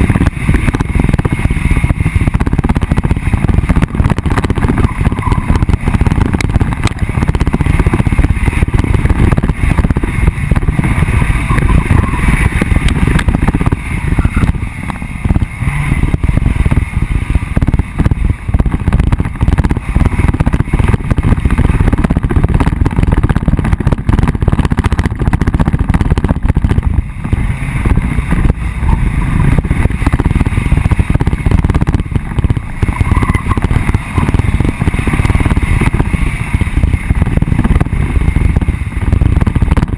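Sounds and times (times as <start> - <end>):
jolts and knocks on bumpy track: 0.0 - 39.9
off-road vehicle engine rumble: 0.0 - 39.9.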